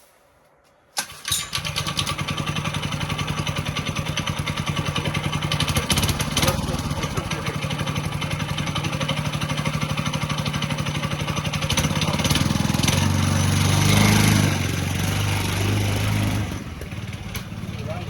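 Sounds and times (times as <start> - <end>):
small engine puttering: 1.0 - 18.0.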